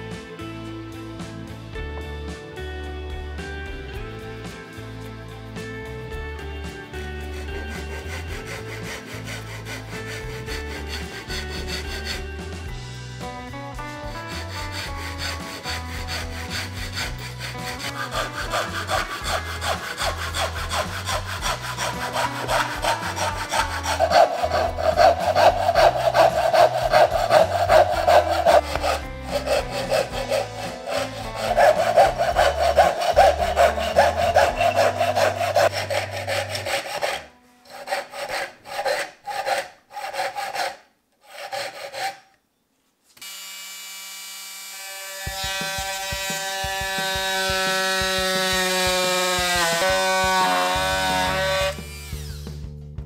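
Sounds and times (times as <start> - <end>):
hand saw cutting wood: 6.4 - 42.4, 43.2 - 52.6.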